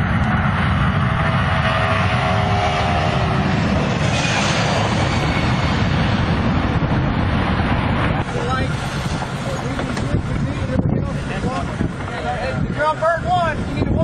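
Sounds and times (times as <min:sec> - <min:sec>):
engine rumble: 0:00.0 - 0:14.0.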